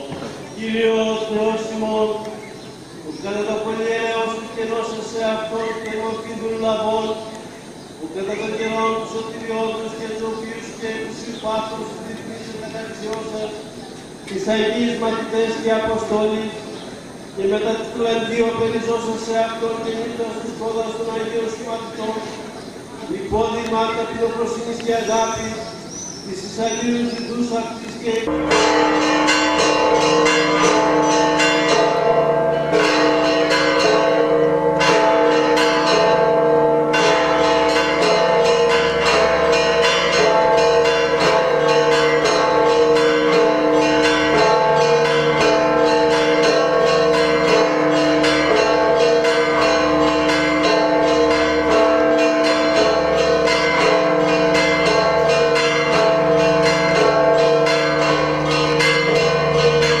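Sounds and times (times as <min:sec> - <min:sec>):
church bells pealing: 0:00.0 - 0:02.4, 0:03.0 - 0:13.8, 0:14.4 - 0:16.7, 0:17.4 - 1:00.0.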